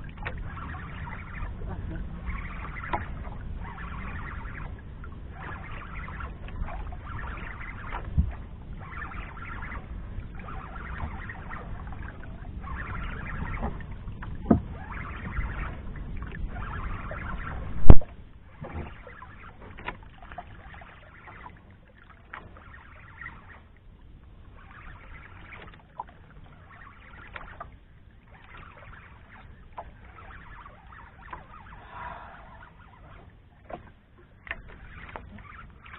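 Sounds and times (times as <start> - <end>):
water splashing against boat hull: 0.0 - 35.9.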